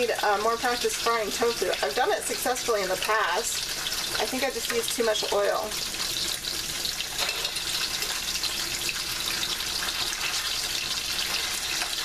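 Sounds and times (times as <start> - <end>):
tofu sizzling in oil: 0.0 - 12.0.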